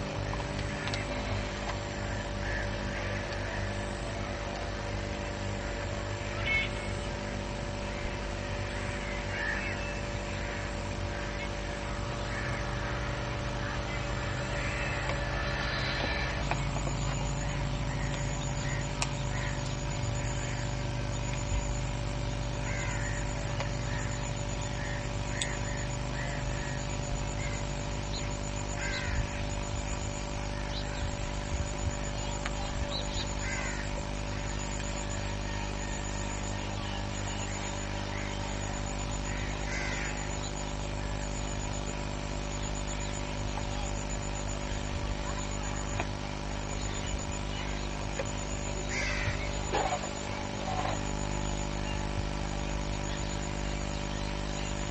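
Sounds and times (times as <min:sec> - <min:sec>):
birds calling: 0:00.0 - 0:54.9
steady hum: 0:00.0 - 0:54.9.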